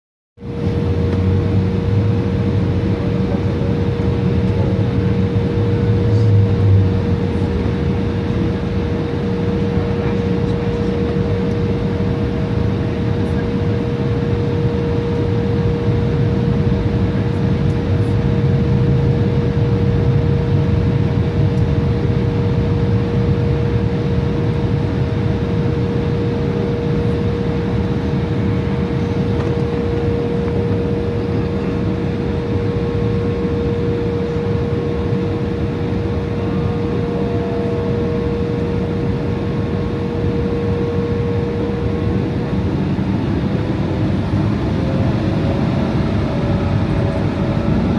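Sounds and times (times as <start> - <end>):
jet engine cabin rumble: 0.4 - 47.9.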